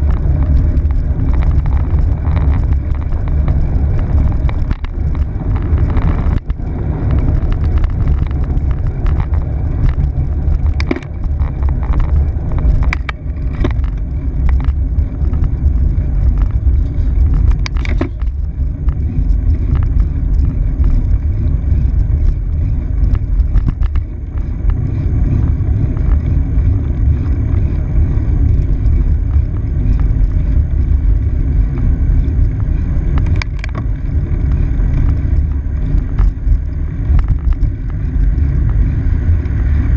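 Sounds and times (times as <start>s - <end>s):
freeway traffic hum: 0.0s - 39.9s
wind and road noise rumble: 0.0s - 39.9s.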